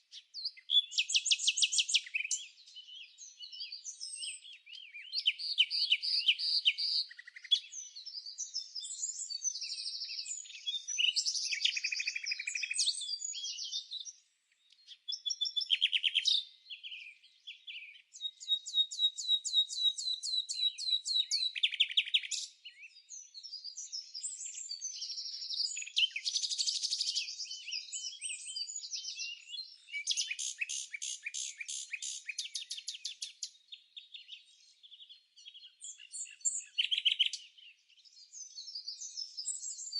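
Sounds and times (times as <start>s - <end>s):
bird chirps whistles and trills: 0.1s - 14.2s, 14.8s - 39.9s.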